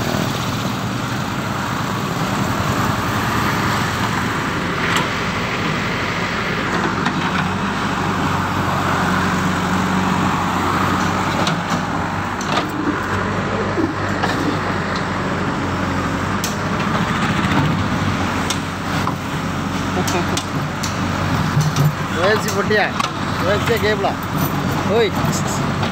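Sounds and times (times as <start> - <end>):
diesel engine running: 0.0 - 25.9
passing road traffic: 0.0 - 25.9.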